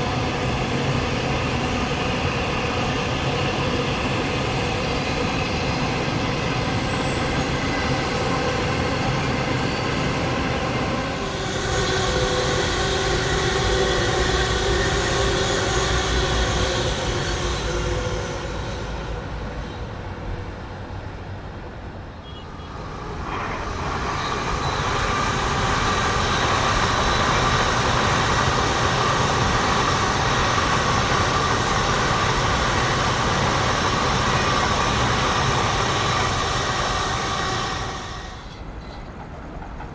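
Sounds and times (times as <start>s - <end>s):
train running on rails: 0.0s - 39.9s.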